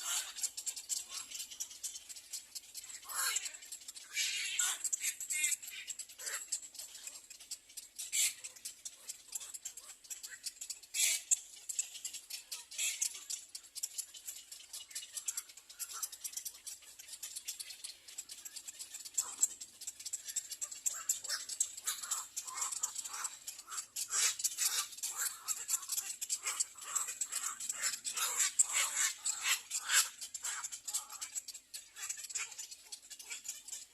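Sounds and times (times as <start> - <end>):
nestlings begging calls: 0.0 - 12.0, 14.3 - 33.9.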